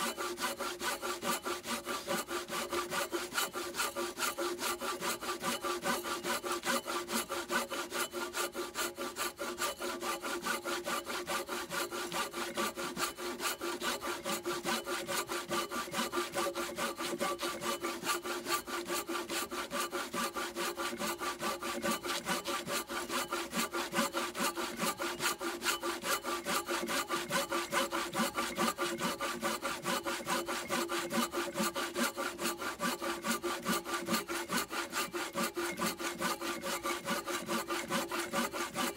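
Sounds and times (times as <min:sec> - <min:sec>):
hand saw cutting wood: 0:00.0 - 0:38.9.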